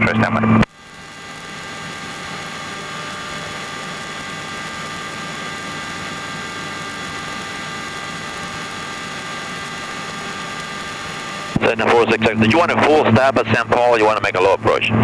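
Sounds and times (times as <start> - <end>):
helicopter cabin drone: 0.0 - 15.0
whining tones: 0.0 - 15.0.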